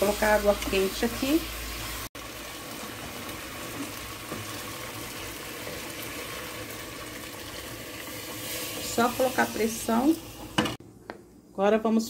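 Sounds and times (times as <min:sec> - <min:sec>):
hot water pouring and splashing: 0:00.0 - 0:10.8.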